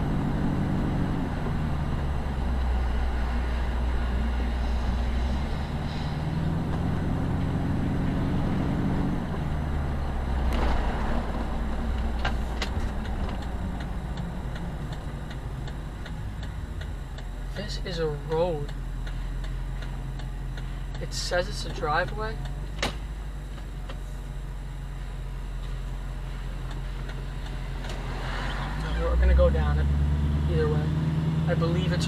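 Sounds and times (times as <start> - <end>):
turn signal ticking: 0.0 - 10.6, 11.3 - 32.0
car engine and road noise: 0.0 - 32.0.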